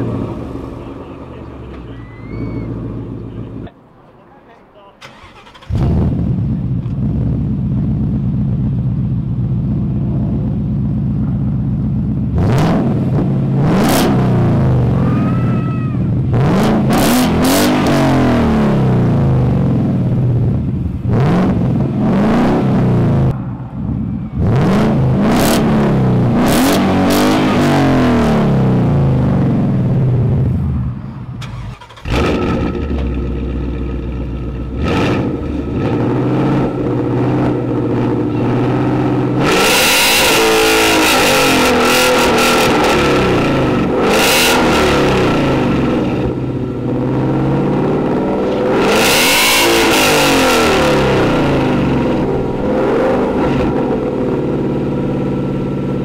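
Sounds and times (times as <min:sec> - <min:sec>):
car engine idling: 0:00.0 - 0:04.2, 0:04.9 - 0:26.6, 0:27.4 - 0:56.0
engine revving in throttle blips: 0:05.0 - 0:56.0.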